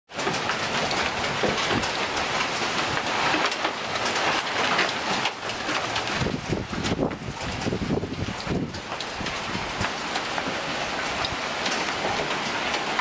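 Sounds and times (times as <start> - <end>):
hailstones striking surfaces: 0.2 - 13.0.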